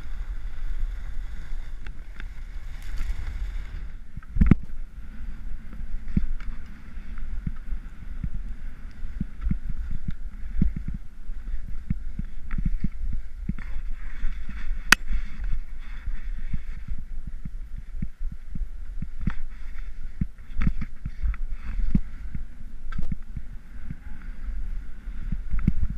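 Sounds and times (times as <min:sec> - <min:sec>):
skis scraping over snow: 0:00.0 - 0:17.6, 0:18.5 - 0:22.6
wind rumbling on microphone: 0:00.0 - 0:25.9.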